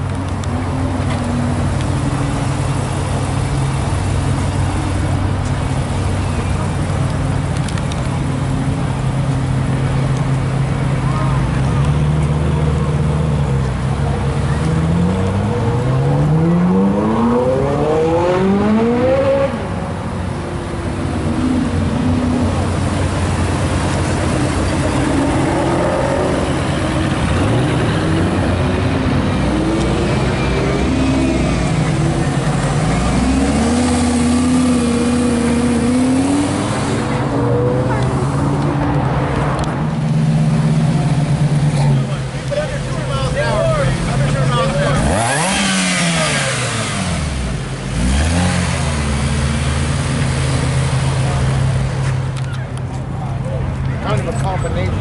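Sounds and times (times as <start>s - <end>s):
sports car engines idling: 0.0s - 16.6s, 19.5s - 55.0s
car engine revving: 0.0s - 55.0s.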